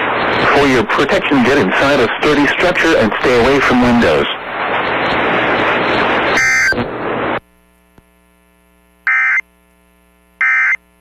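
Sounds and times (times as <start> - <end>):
radio static: 0.0 - 9.4
faint hum: 0.0 - 11.0.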